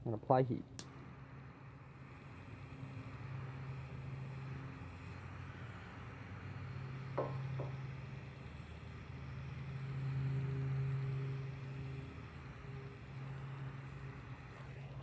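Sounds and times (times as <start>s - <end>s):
heat gun motor hum: 0.8s - 15.0s.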